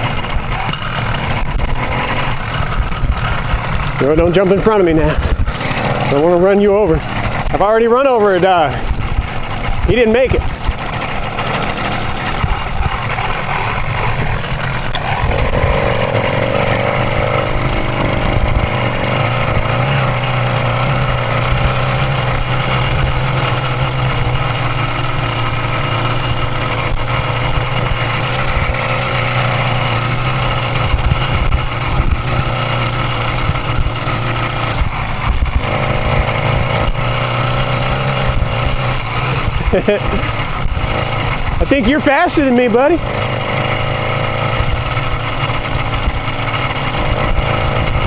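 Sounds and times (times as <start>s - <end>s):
two-stroke engine running: 0.0s - 48.0s.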